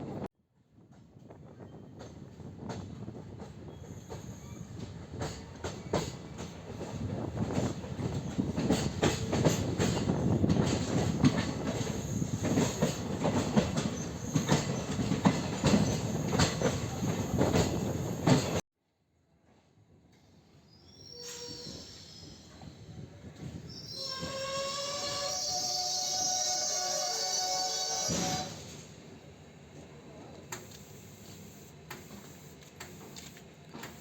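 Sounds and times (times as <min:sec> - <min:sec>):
train rumbling on track: 0:00.0 - 0:18.6, 0:21.0 - 0:34.0.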